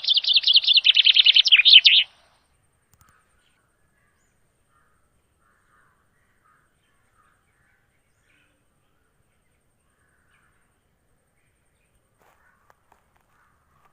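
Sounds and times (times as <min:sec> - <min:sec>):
faint birds chirping: 0:00.0 - 0:13.9.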